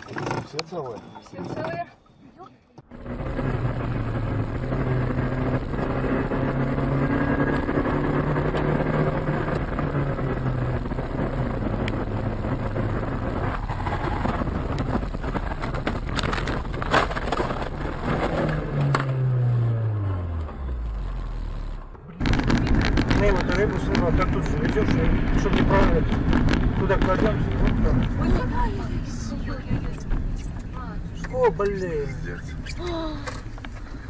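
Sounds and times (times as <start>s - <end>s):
car engine hum: 0.0s - 34.0s
road noise: 0.0s - 34.0s.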